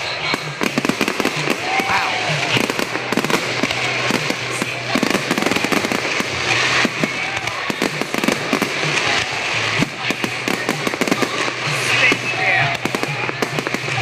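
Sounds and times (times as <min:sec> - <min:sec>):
fireworks popping and crackling: 0:00.0 - 0:14.0.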